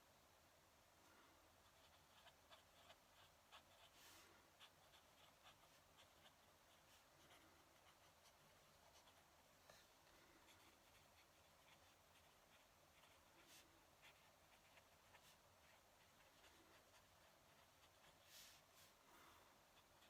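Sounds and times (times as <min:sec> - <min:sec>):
pen nib scratching paper: 0:01.6 - 0:19.0, 0:19.6 - 0:20.0.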